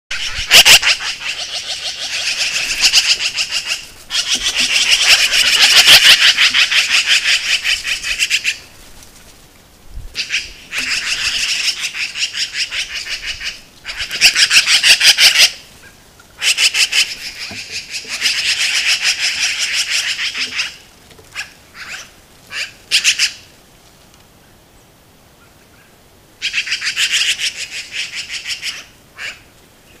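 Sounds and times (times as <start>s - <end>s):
magpies chattering: 0.1s - 8.7s, 10.2s - 23.5s, 26.4s - 29.4s.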